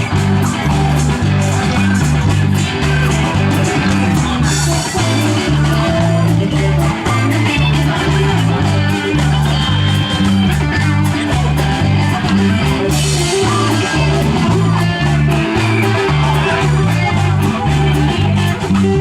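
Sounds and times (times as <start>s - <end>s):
bass line: 0.0s - 19.0s
ticking beat: 0.0s - 19.0s.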